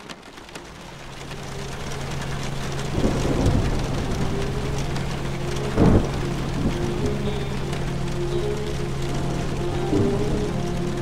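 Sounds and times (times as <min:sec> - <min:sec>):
rain pattering: 0:00.0 - 0:11.0
thunder rumbling: 0:00.0 - 0:11.0
low hum: 0:00.6 - 0:11.0.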